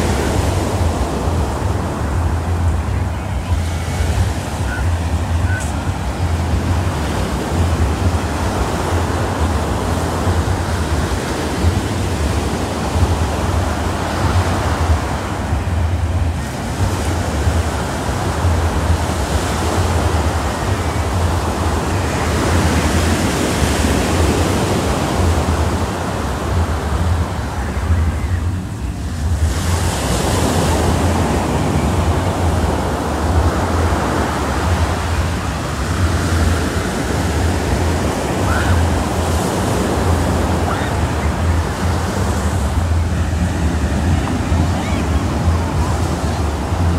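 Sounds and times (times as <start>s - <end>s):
surf breaking on beach: 0.0s - 46.9s
wind rumble on microphone: 0.0s - 46.9s.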